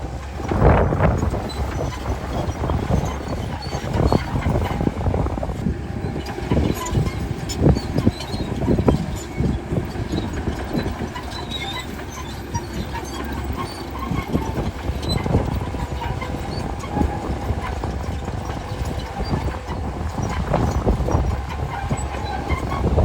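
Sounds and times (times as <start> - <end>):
bulldozer engine drone: 0.0 - 23.0
steel tracks clanking: 0.0 - 23.0.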